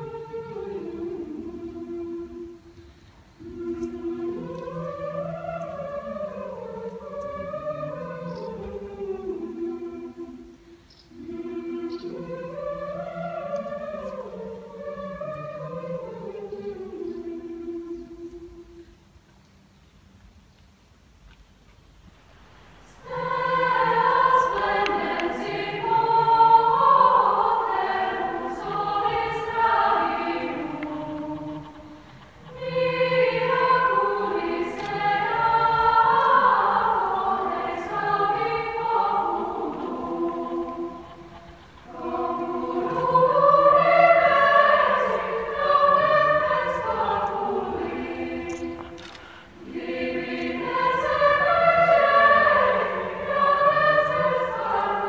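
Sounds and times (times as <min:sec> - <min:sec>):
choir singing a cappella: 0:00.0 - 0:19.0, 0:22.1 - 0:55.0.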